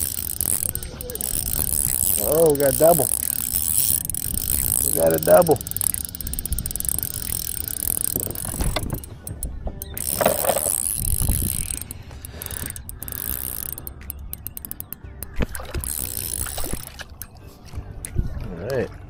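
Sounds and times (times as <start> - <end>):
fishing reel gears clicking: 0.0 - 17.4.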